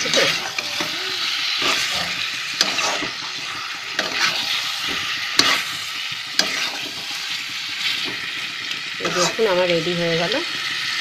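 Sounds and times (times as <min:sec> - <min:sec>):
curry sizzling in a pan: 0:00.0 - 0:11.0
spatula stirring and scraping: 0:00.0 - 0:11.0.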